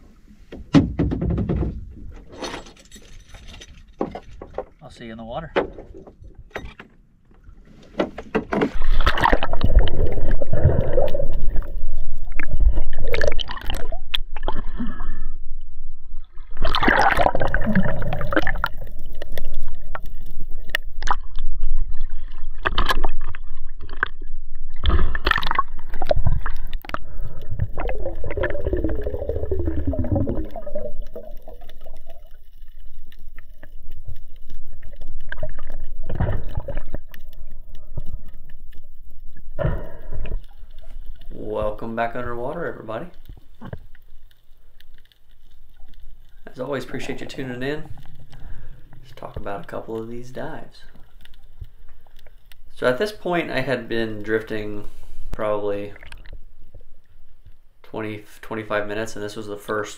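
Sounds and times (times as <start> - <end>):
water splashing and gurgling: 8.5 - 57.0.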